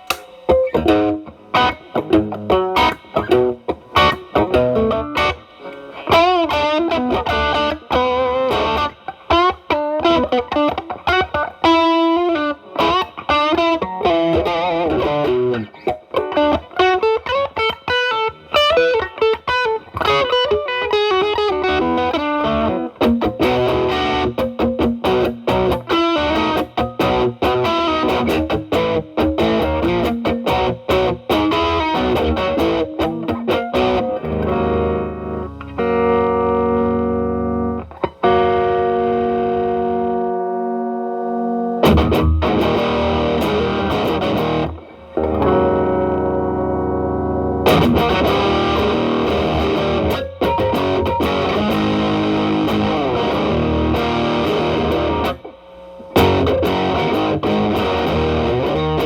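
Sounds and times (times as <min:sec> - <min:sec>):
distorted electric guitar lead: 0:00.0 - 0:59.0.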